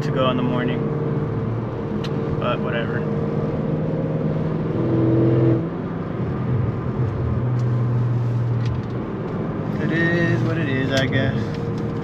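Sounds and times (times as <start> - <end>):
car engine and exhaust: 0.0 - 12.0.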